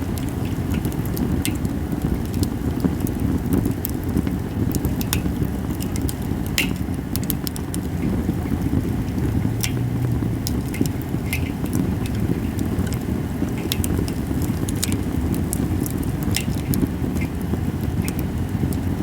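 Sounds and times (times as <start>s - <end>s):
low fire rumble: 0.0s - 19.0s
wood fire crackling and popping: 0.0s - 19.0s.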